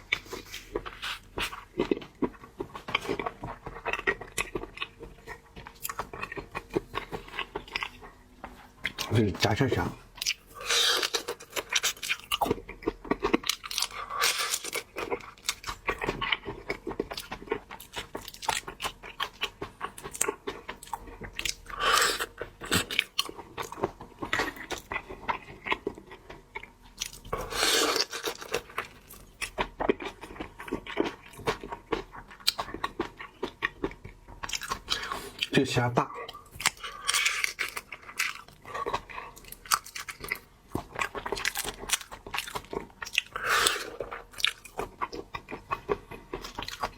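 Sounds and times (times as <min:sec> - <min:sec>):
chewing and crunching shrimp: 0:00.0 - 0:46.9.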